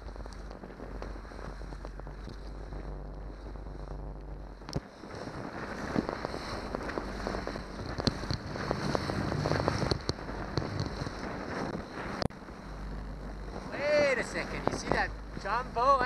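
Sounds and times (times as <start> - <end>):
hull slapping on waves: 0.0 - 16.0
outboard motor drone: 0.0 - 16.0
wind buffeting microphone: 0.0 - 16.0.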